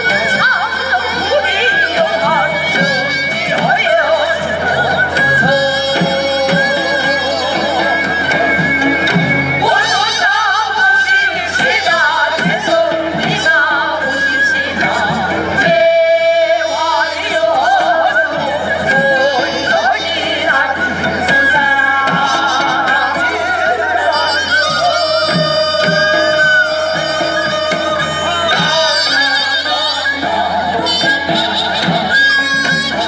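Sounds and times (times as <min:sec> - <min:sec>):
traditional music with sliding melodies: 0:00.0 - 0:33.0.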